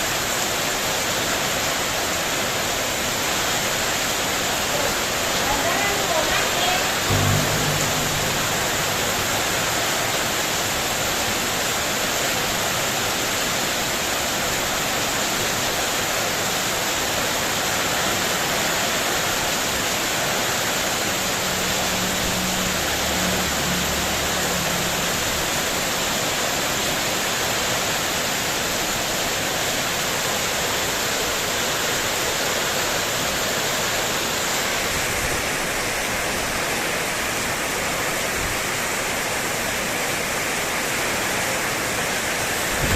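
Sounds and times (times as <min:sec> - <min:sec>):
heavy rain on metal roof: 0:00.0 - 0:42.9.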